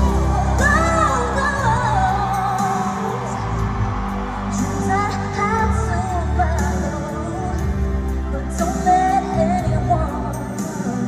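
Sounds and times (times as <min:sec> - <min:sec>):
pop backing track with bass: 0:00.0 - 0:11.0
woman singing with vibrato: 0:00.0 - 0:11.0.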